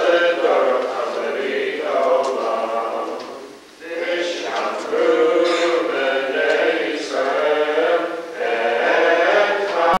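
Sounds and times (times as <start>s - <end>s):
voices singing a chant: 0.0s - 10.0s.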